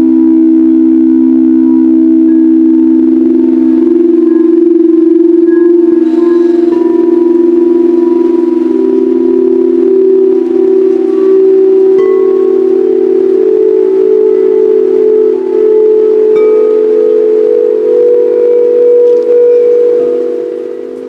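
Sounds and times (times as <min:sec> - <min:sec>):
singing bowls ringing: 0:02.3 - 0:21.0.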